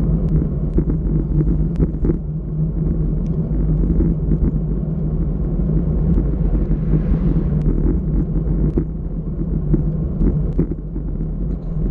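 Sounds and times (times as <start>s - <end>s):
bike rolling on asphalt: 0.0s - 11.9s
wind buffeting microphone: 0.0s - 11.9s.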